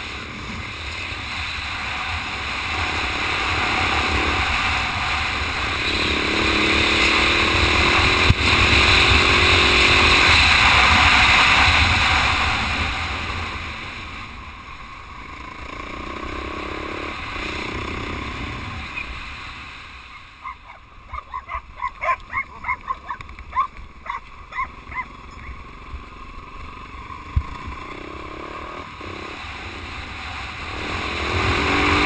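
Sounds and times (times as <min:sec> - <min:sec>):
dirt bike engine running: 0:00.0 - 0:32.0.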